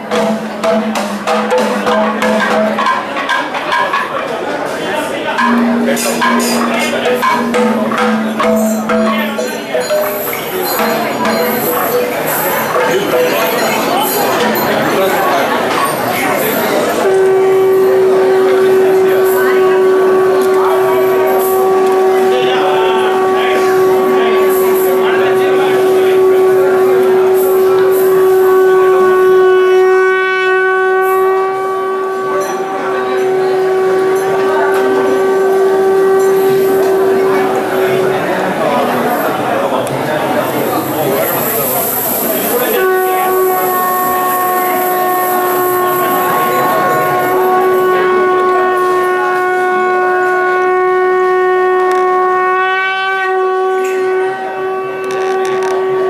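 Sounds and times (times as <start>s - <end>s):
conch shell blown in long note: 0.0s - 3.0s, 5.4s - 39.3s, 41.2s - 56.0s
murmur of crowd: 0.0s - 56.0s.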